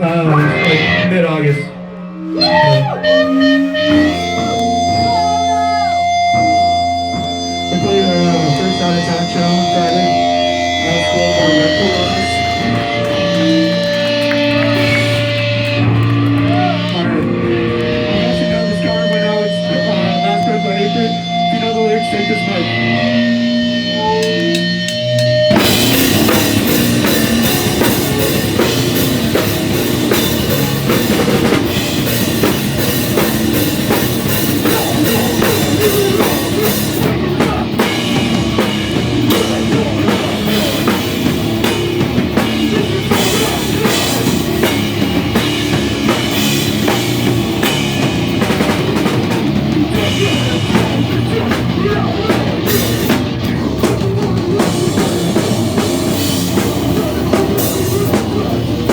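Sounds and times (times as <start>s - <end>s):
electric guitar: 0.0s - 58.9s
live rock band playing: 0.0s - 58.9s.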